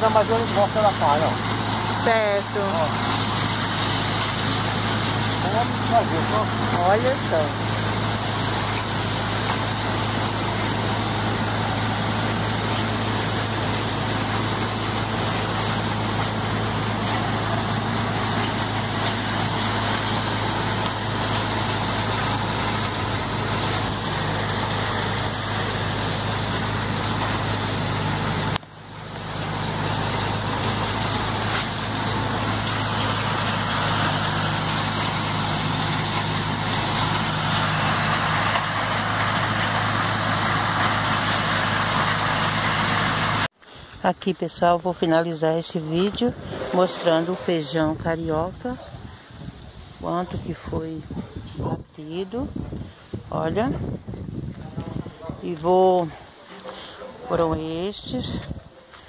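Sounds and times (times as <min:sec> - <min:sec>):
threshing machine engine drone: 0:00.0 - 0:44.0, 0:44.7 - 0:59.0.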